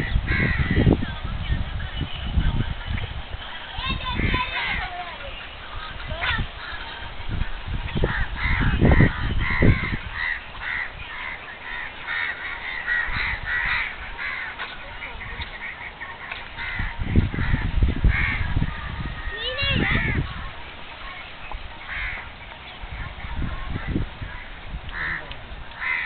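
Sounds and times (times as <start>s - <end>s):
birds calling: 0.0s - 26.0s
low rumbling on microphone: 0.0s - 26.0s.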